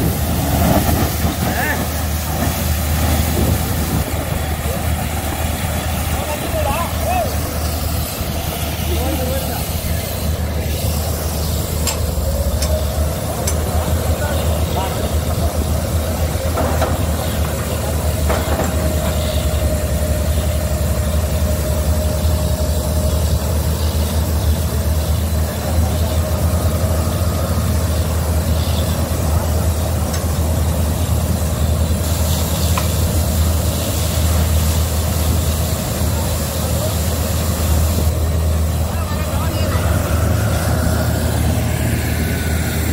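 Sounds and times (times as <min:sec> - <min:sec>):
drilling rig engine and compressor: 0:00.0 - 0:42.9.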